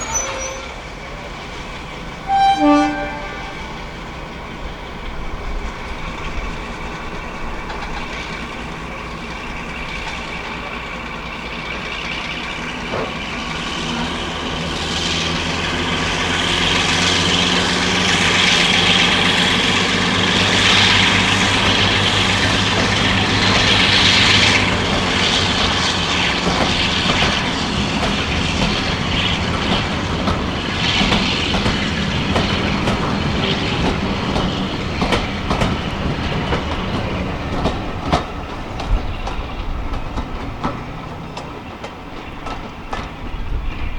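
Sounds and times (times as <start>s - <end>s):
wheels rattling over rail joints: 0.0s - 2.4s, 3.0s - 43.9s
locomotive engine drone: 0.0s - 43.9s.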